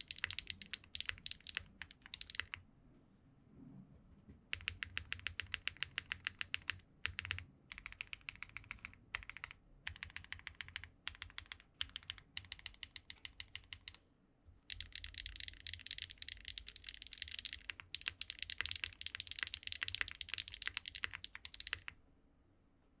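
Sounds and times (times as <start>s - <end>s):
mechanical keyboard typing: 0.0s - 2.6s, 4.5s - 14.0s, 14.7s - 22.0s.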